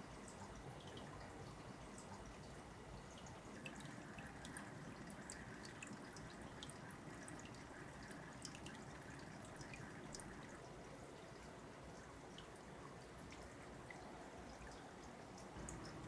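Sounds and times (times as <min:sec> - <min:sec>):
steady low hiss: 0:00.0 - 0:16.0
water dripping into aquarium: 0:00.0 - 0:16.0.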